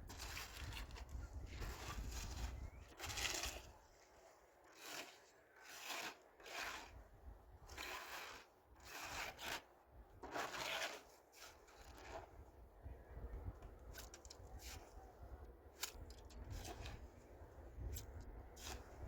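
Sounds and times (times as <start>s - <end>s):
scraping strokes: 0.0s - 7.0s, 7.7s - 12.4s, 13.9s - 15.0s, 15.8s - 19.0s.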